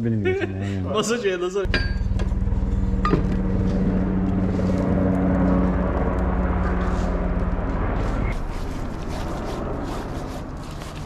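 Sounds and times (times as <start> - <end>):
engine droning steadily: 1.6 - 11.0.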